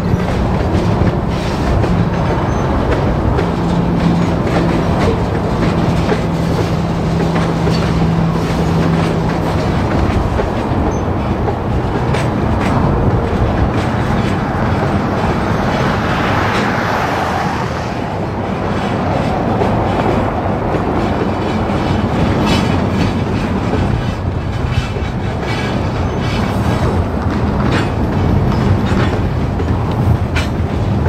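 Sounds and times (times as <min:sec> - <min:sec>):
steel wheels rumbling on rail: 0:00.0 - 0:31.0
wheels clacking over rail joints: 0:00.0 - 0:31.0.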